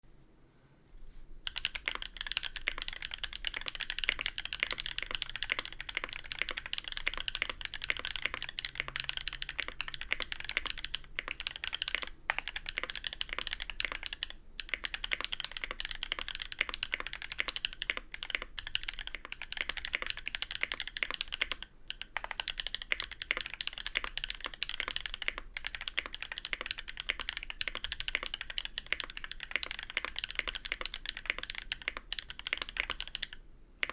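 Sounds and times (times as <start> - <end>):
fast typing on mechanical keyboard: 1.4 - 33.9.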